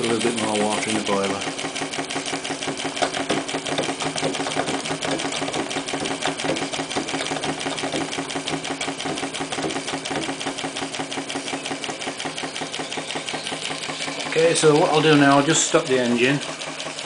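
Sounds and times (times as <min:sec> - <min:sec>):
model steam engine clattering: 0:00.0 - 0:17.0.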